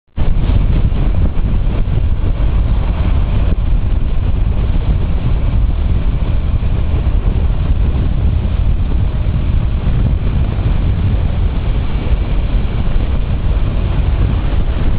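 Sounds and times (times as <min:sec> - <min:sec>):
wind buffeting microphone: 0:00.1 - 0:14.9
motorcycle engine: 0:00.2 - 0:14.9.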